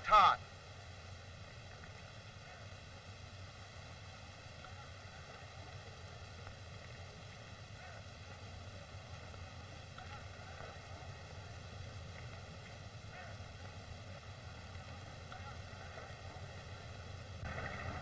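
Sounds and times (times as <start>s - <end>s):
film soundtrack hiss and hum: 0.0s - 18.0s.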